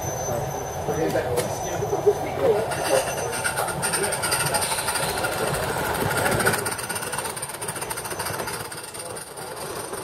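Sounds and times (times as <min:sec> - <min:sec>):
wheels on rails: 0:00.0 - 0:10.0.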